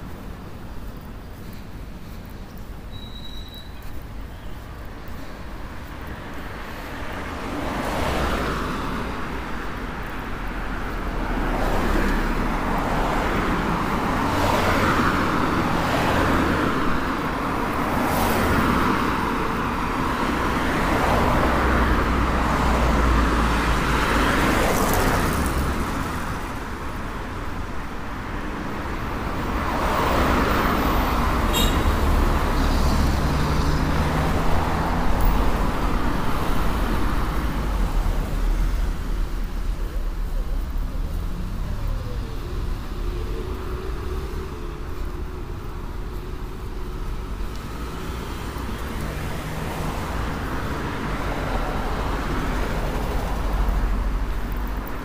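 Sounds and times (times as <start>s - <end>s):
low traffic rumble: 0.0s - 55.0s
cars passing: 3.8s - 55.0s.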